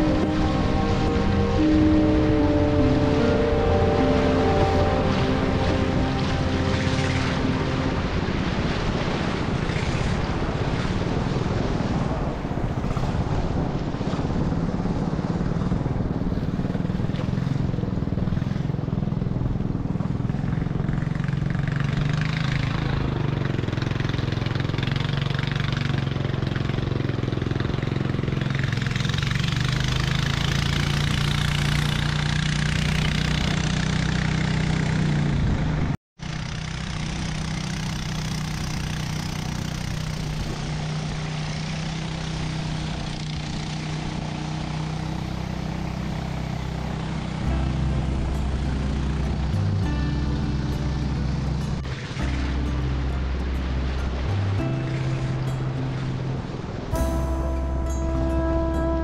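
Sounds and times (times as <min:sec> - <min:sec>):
rushing water noise: 0:00.0 - 0:19.0, 0:20.0 - 0:59.0
motorboat engine droning: 0:00.0 - 0:59.0.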